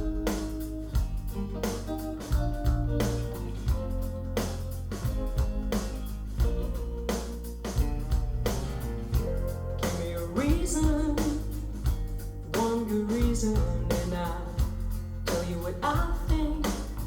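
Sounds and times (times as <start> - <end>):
rock song over speakers: 0.0 - 17.0.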